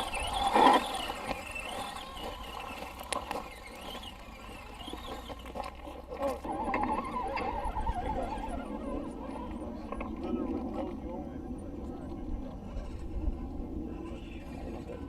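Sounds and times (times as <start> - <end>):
toy car motor whine: 0.0 - 15.0.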